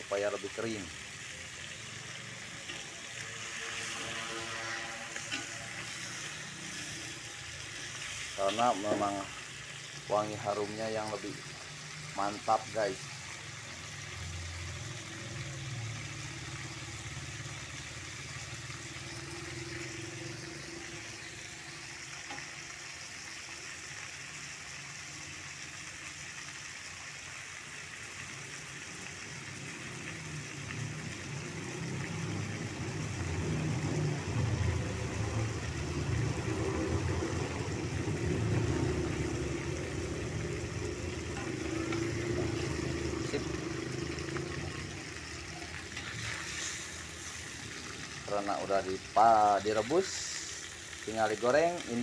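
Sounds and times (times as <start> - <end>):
fish sizzling in oil: 0.0 - 52.0.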